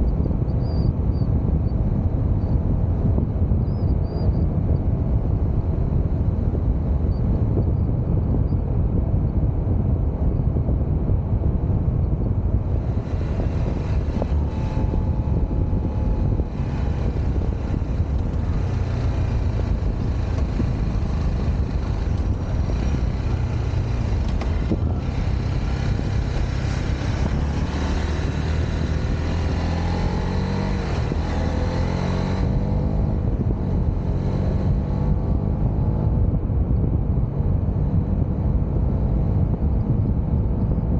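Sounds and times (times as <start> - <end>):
motorcycle engine accelerating: 0.0 - 40.9
wind on microphone: 0.0 - 40.9.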